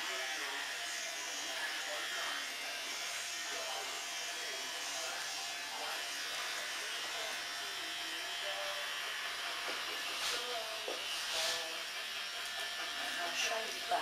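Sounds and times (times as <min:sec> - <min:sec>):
electric hair clippers running: 0:00.0 - 0:14.0.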